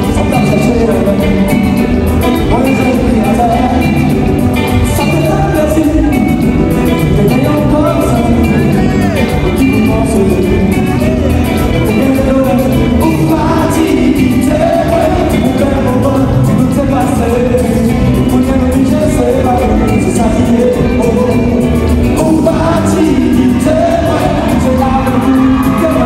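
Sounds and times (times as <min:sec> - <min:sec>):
live rock band playing: 0:00.0 - 0:26.0
person singing lead vocals: 0:00.0 - 0:26.0.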